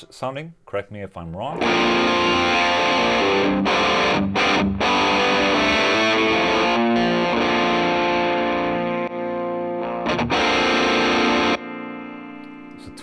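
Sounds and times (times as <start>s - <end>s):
distorted electric guitar chords: 1.5s - 13.0s.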